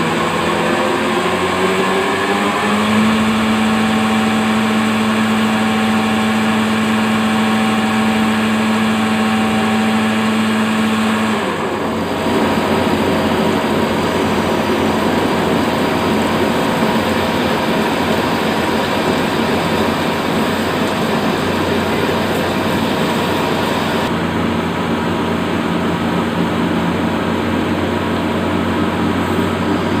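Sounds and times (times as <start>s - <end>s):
rough machine cutting: 0.0s - 24.1s
machine humming: 0.0s - 25.7s.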